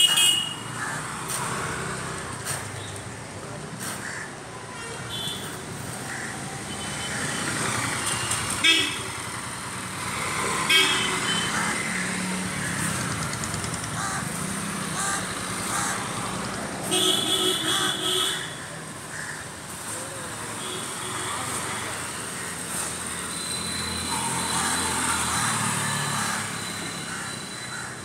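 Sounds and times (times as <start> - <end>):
scooters and motorcycles passing: 0.0 - 4.7, 5.4 - 28.0.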